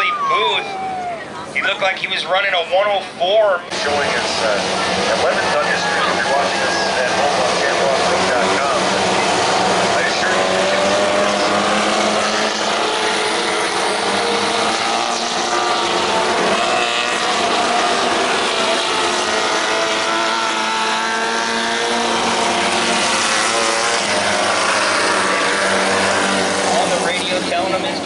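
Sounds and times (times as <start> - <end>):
racing buggy engines: 0.0 - 28.0.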